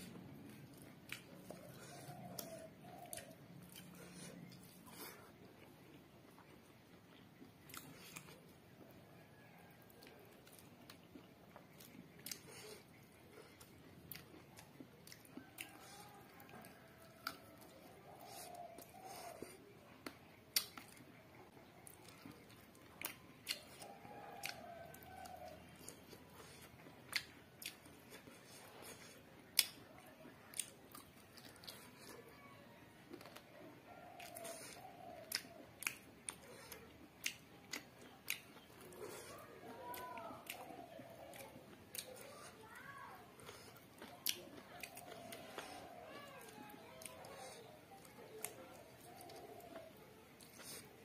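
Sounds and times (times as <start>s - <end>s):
chewing food: 0.0s - 51.0s.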